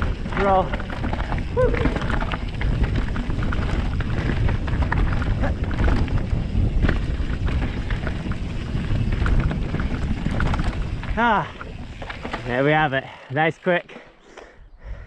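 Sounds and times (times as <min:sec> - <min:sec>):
wind rumble on microphone: 0:00.0 - 0:12.5
bike rattles and knocks: 0:00.0 - 0:14.2
bike tyres on gravel: 0:00.0 - 0:14.5.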